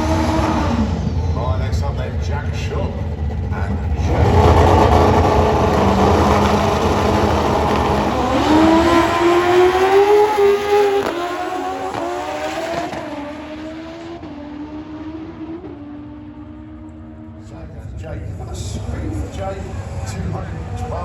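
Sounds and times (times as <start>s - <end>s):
racing motorcycles accelerating: 0.0s - 21.0s.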